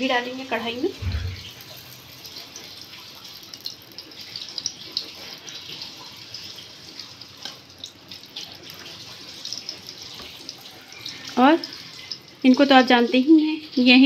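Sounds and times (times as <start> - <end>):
ghee crackling in a hot pan: 0.0 - 14.0.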